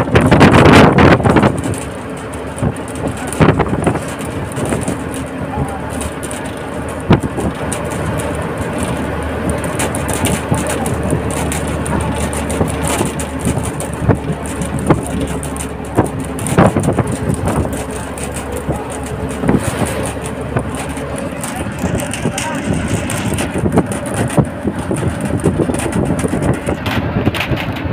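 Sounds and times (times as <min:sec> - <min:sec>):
bus body rattling and knocking: 0:00.0 - 0:27.9
bus engine hum: 0:00.0 - 0:27.9
road noise: 0:00.0 - 0:27.9
wind at open window: 0:00.0 - 0:27.9.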